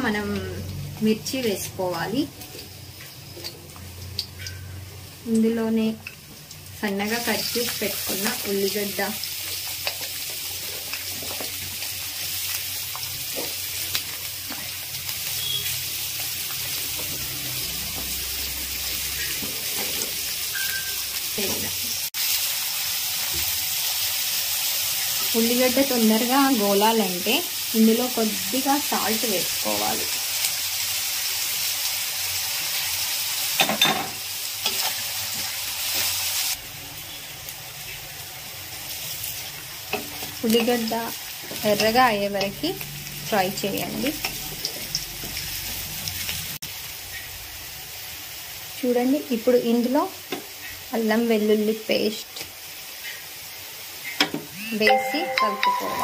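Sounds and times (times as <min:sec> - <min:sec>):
onions frying in hot oil: 0:00.0 - 0:56.0.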